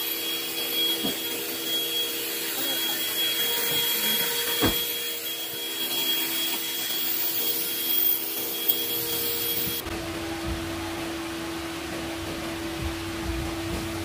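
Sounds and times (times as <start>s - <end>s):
handheld vacuum humming and whining: 0.0s - 14.0s.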